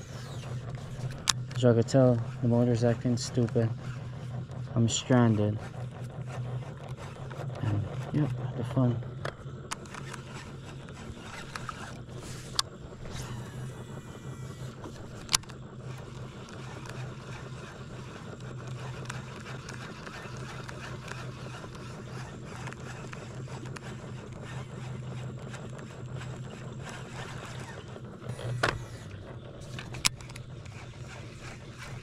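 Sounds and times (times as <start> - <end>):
boat motor humming: 0.0 - 32.0.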